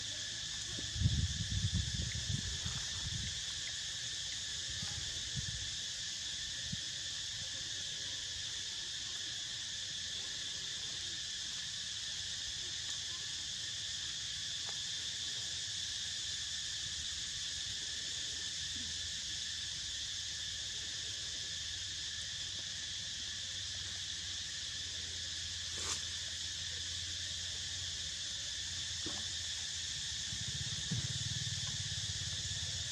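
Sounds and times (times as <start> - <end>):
insects droning: 0.0 - 32.9.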